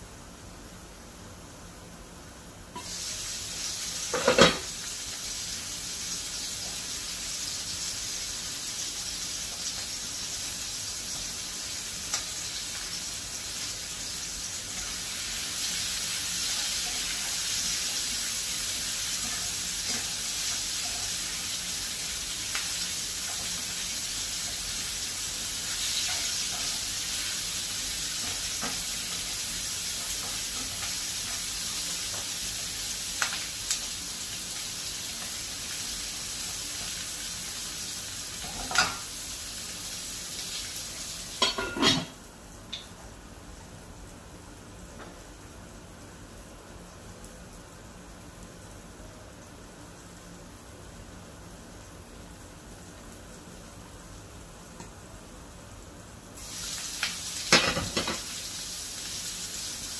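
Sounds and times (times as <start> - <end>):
vegetables sizzling in a pan: 0.0 - 59.9.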